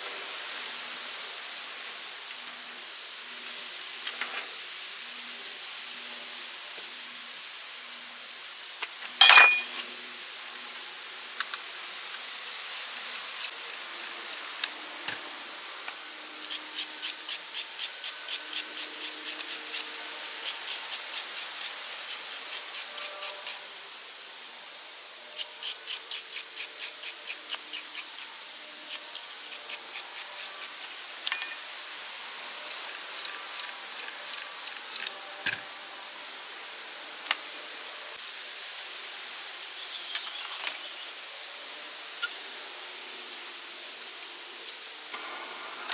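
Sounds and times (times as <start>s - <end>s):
steady hiss: 0.0s - 45.9s.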